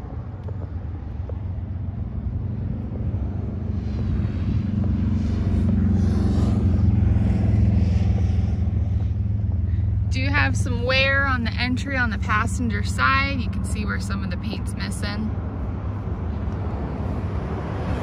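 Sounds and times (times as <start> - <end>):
engine rumble: 0.0 - 18.0.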